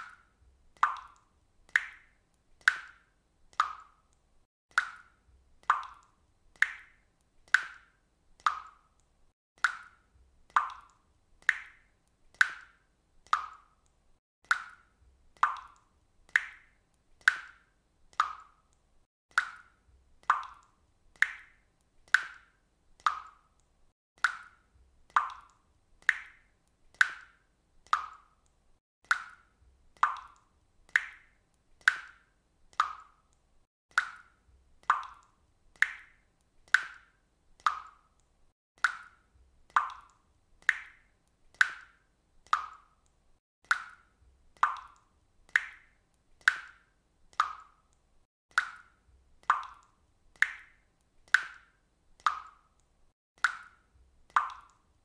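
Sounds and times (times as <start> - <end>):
water dripping from a faucet: 0.0 - 55.0.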